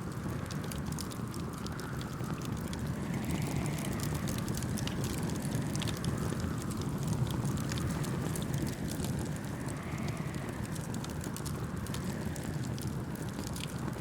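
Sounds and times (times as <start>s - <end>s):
campfire crackling and popping: 0.0s - 14.0s
low rumble of wind: 0.0s - 14.0s.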